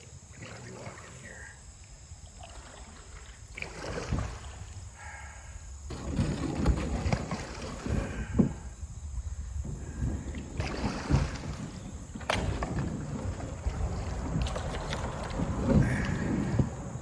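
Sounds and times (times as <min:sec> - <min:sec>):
kayak pulled through shallow water: 0:00.0 - 0:17.0
wind rumbling on microphone: 0:03.0 - 0:17.0.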